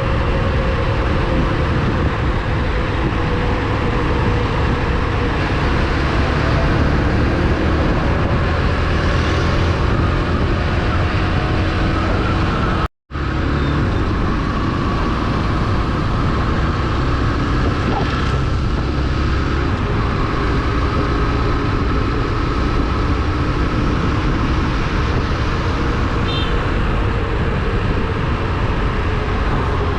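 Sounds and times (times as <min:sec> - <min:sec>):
motorcycle road and wind noise: 0:00.0 - 0:29.9.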